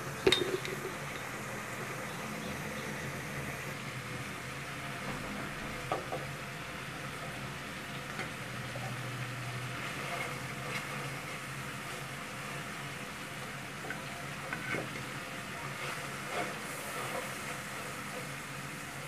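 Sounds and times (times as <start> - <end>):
curry sizzling in a pot: 0.0 - 19.0.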